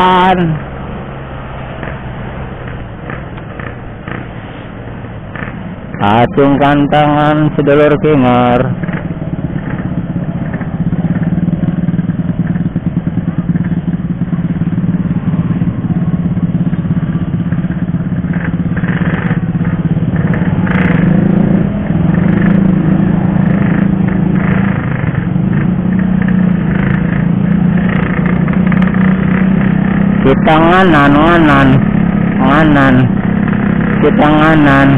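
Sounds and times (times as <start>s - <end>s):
motorcycle engine running: 0.0s - 4.4s, 5.0s - 34.9s.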